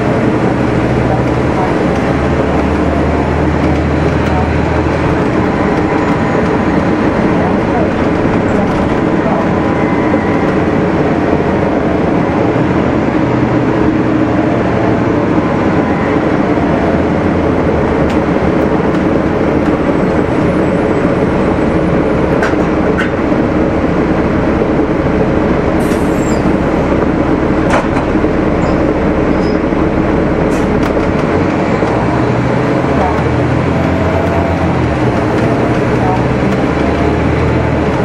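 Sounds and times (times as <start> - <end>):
diesel bus engine idling: 0.0 - 38.0.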